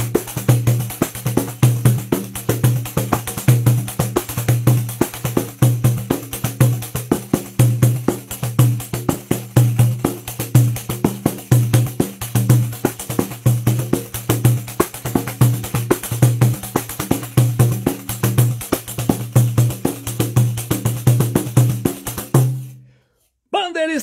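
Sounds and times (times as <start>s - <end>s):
frame drum with jingles: 0.0s - 22.7s.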